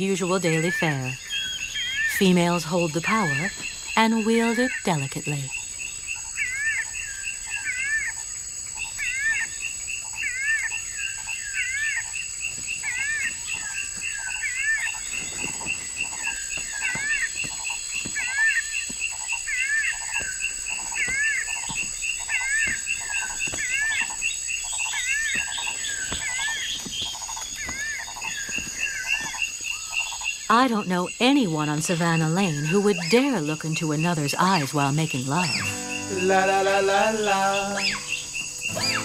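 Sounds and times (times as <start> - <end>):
animal calls: 0.0 - 39.0.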